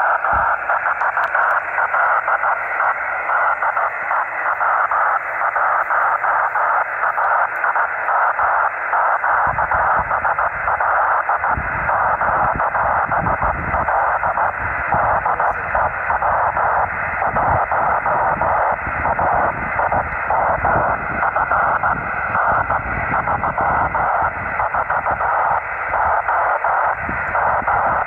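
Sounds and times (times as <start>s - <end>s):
radio receiver hiss: 0.0s - 28.0s.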